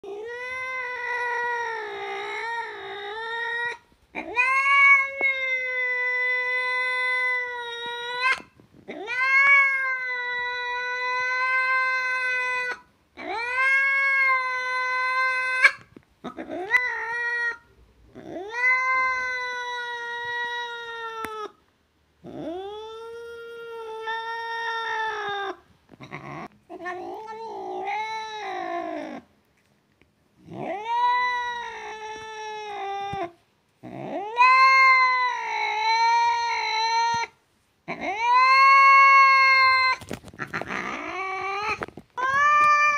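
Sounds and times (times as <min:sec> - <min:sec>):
cat yowling: 0:00.0 - 0:21.6, 0:22.3 - 0:29.3, 0:30.4 - 0:42.9.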